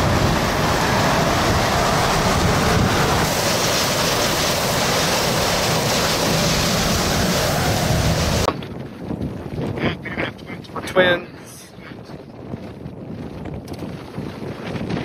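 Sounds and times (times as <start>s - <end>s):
strong wind blasting microphone: 0.0s - 15.0s.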